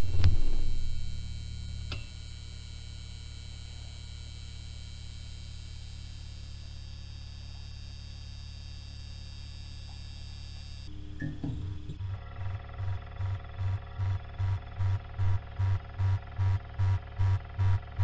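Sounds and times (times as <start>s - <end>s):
faint high steady tones: 0.0s - 17.8s
low electrical hum: 0.0s - 18.0s.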